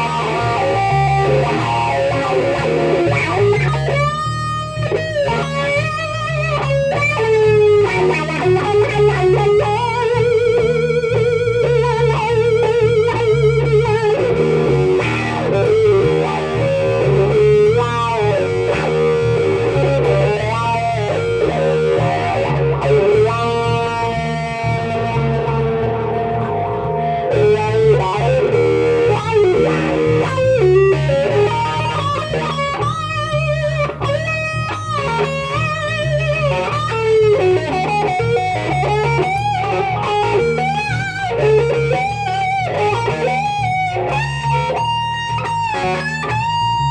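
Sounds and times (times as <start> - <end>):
electric bass line: 0.0 - 46.9
electric guitar solo: 0.0 - 46.9.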